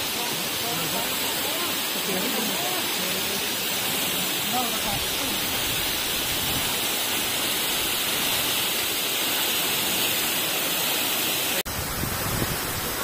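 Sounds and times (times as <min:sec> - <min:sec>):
waterfall rushing onto rock: 0:00.0 - 0:13.0.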